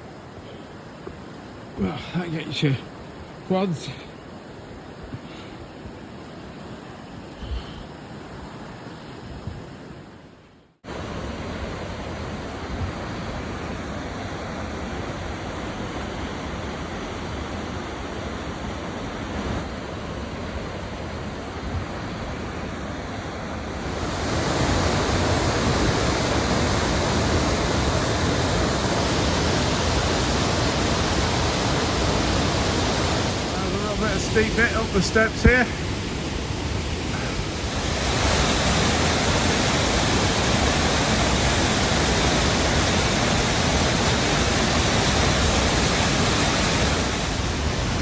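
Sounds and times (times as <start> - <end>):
waterfall rushing: 1.4 - 4.2, 10.9 - 48.0.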